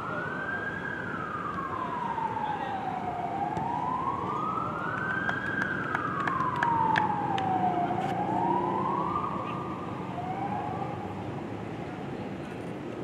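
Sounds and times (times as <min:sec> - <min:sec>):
emergency siren wailing: 0:00.0 - 0:11.4.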